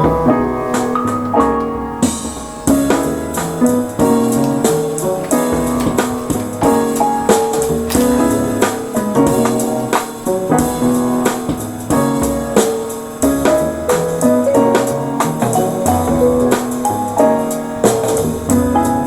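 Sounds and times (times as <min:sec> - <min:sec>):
drum beat: 0:00.0 - 0:19.0
piano background music: 0:00.0 - 0:19.0.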